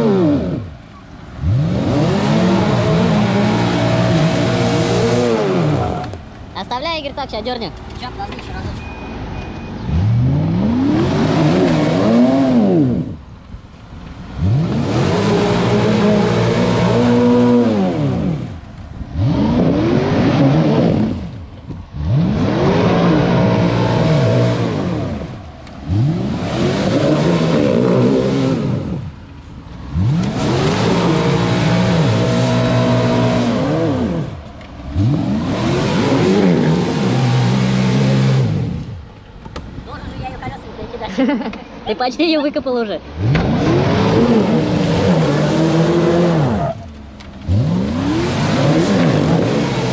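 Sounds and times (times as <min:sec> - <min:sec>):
off-road vehicle engine revving: 0:00.0 - 0:49.9.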